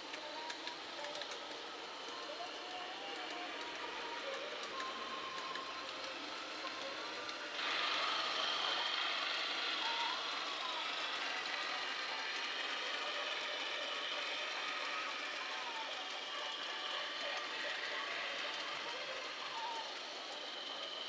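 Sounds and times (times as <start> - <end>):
model locomotive drone: 0.0 - 21.0
model train mechanical hum: 0.0 - 21.0.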